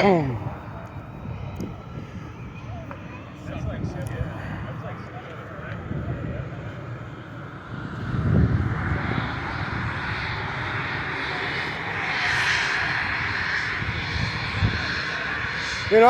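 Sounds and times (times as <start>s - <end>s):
aircraft engine whooshing: 0.0s - 16.0s
wind gusting on microphone: 0.0s - 16.0s.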